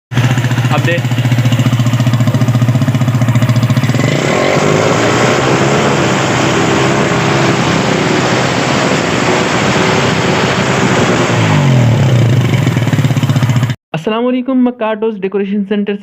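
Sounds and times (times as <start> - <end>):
motorcycle engine popping and revving: 0.1 - 13.8.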